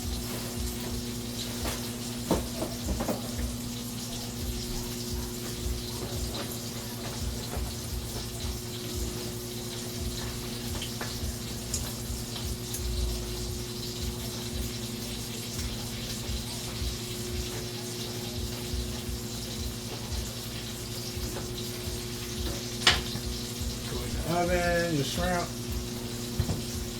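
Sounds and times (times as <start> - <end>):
low electrical hum: 0.0 - 26.9
steak sizzling in a frying pan: 0.0 - 26.9.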